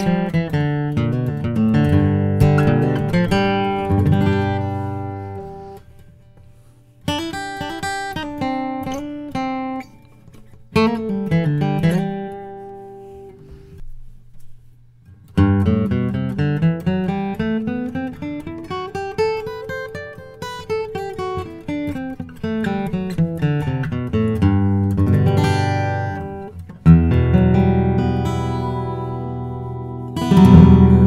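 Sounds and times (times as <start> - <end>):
acoustic guitar picked and strummed: 0.0 - 31.0.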